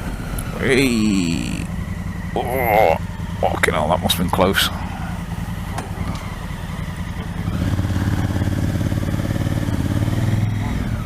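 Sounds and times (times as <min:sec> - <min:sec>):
motorcycle engine accelerating: 0:00.0 - 0:11.0
wind and road noise: 0:00.0 - 0:11.0.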